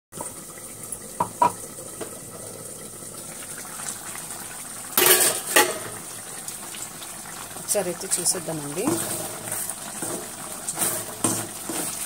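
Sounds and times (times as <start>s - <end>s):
curry bubbling and sputtering: 0.2s - 12.0s.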